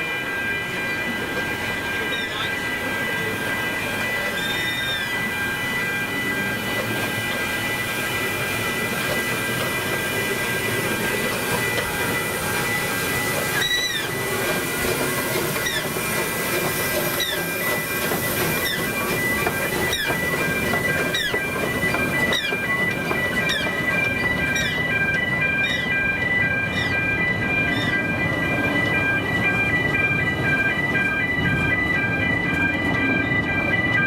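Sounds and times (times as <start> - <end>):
steam train rumble and hiss: 0.0 - 31.8.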